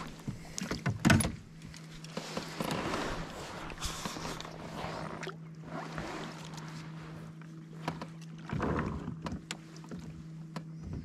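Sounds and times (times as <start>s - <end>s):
light water sounds: 0.0s - 11.0s
steady low hum: 0.0s - 11.0s.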